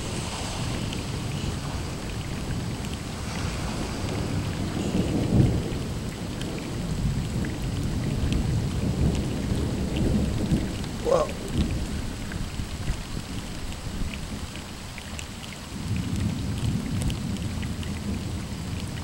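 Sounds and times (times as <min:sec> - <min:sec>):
thunder rumbling: 0:00.0 - 0:14.7, 0:15.6 - 0:19.0
steady rain: 0:00.0 - 0:19.0.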